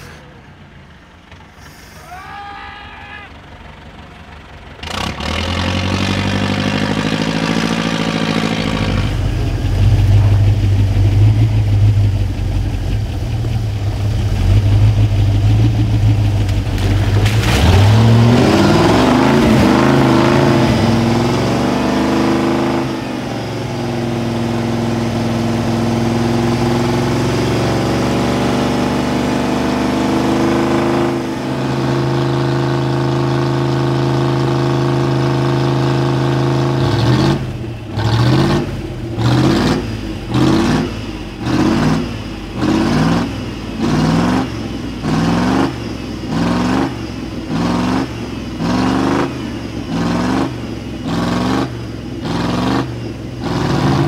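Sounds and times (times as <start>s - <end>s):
truck engine revving under load: 3.3s - 54.0s.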